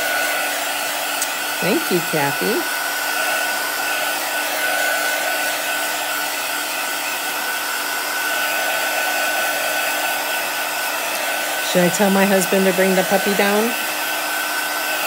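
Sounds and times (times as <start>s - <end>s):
heat tool blowing: 0.0s - 15.0s.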